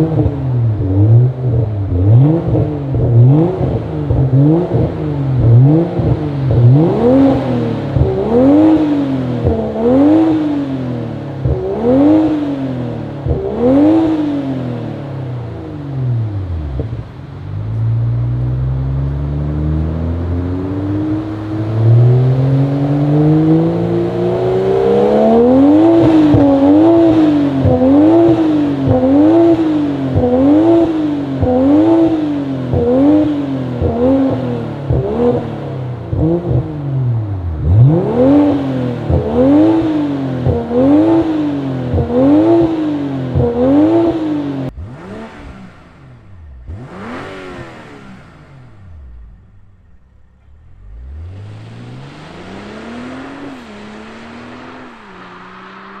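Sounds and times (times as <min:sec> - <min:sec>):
car engine revving through exhaust: 0:00.0 - 0:56.0.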